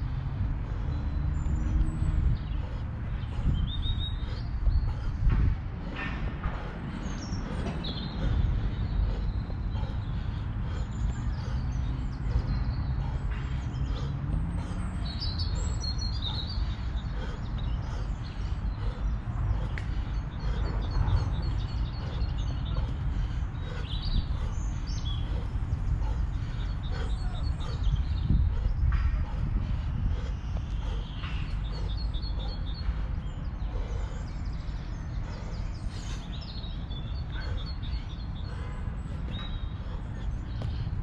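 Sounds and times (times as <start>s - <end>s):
small birds chirping: 0.0s - 41.0s
steady low rumble: 0.0s - 41.0s.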